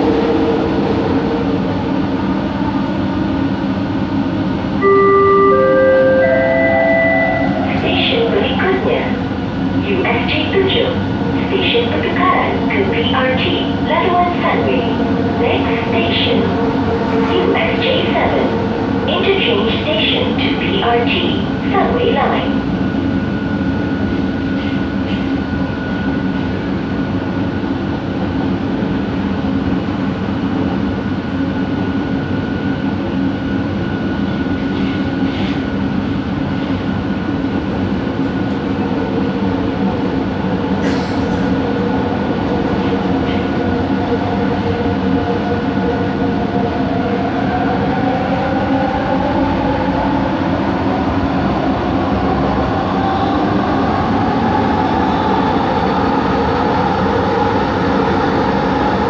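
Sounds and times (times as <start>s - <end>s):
metro train motor rumble and whine: 0.0s - 59.0s.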